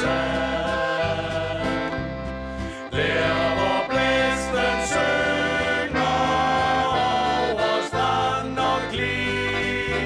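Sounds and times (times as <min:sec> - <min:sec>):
men singing together: 0:00.0 - 0:01.9, 0:02.9 - 0:10.0
piano accordion: 0:00.0 - 0:10.0.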